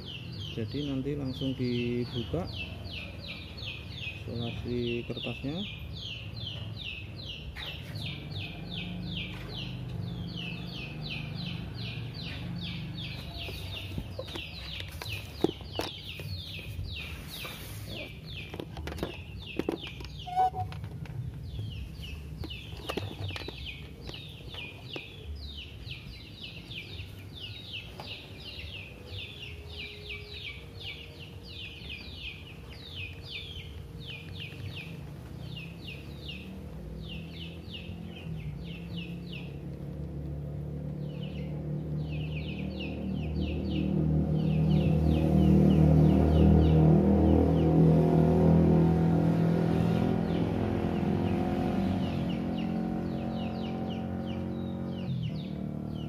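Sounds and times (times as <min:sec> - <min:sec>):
bird chirping rapidly: 0:00.0 - 0:56.0.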